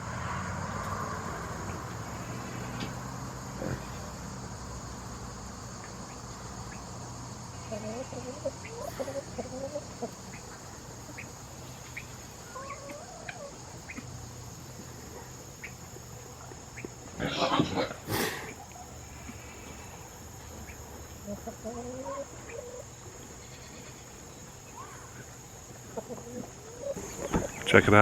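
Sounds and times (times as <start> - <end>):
insects buzzing: 0.0 - 28.0
chickens clucking: 0.2 - 28.0.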